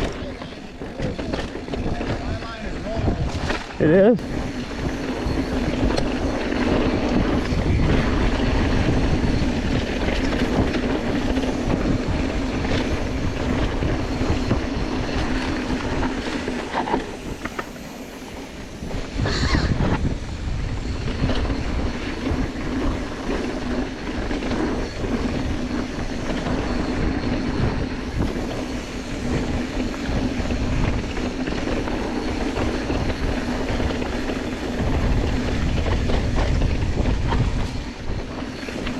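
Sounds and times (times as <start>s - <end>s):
bike rattling: 0.0s - 38.9s.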